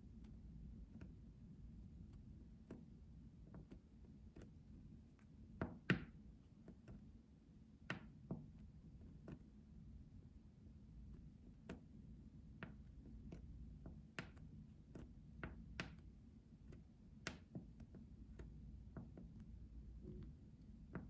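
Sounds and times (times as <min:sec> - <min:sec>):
soft taps and clicks: 0:00.1 - 0:01.3, 0:02.0 - 0:07.2, 0:07.8 - 0:09.6, 0:11.0 - 0:21.0.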